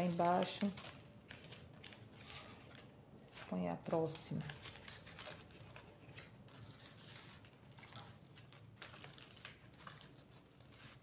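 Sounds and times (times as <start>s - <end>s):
dry fibre strips rustling: 0.0s - 11.0s.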